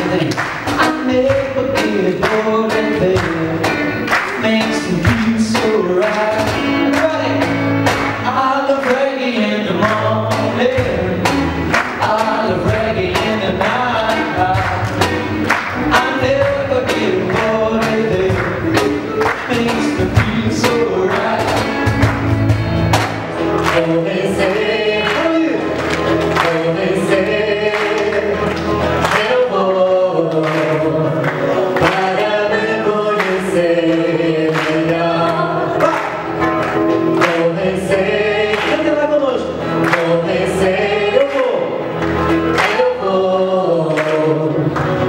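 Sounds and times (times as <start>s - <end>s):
men singing together: 0.0s - 22.3s, 23.2s - 45.0s
acoustic and electric guitars: 0.0s - 45.0s
cajon beat: 0.0s - 45.0s.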